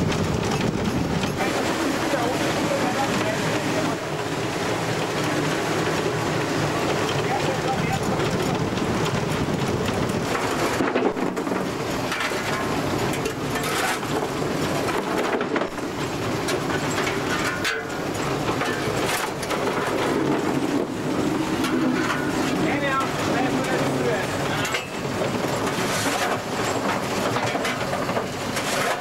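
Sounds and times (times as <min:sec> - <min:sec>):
steam locomotive clatter: 0:00.0 - 0:29.0.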